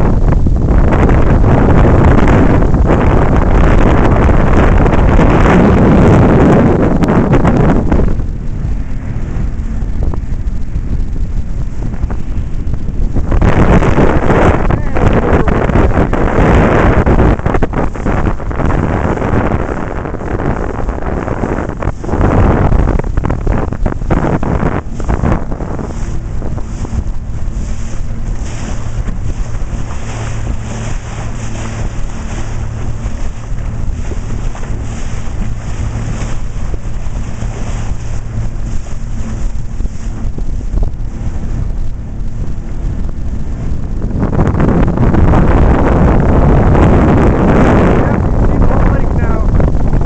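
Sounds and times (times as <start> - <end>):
boat motor humming: 0.0 - 50.0
water splashing along hull: 0.0 - 50.0
wind buffeting microphone: 0.0 - 50.0.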